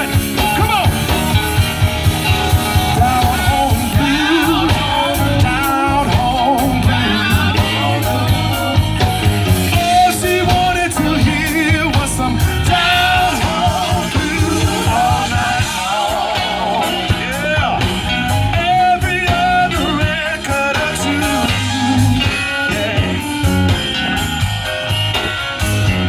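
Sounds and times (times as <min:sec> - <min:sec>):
live blues rock band: 0:00.0 - 0:26.0
person singing: 0:02.4 - 0:09.0, 0:09.6 - 0:24.9.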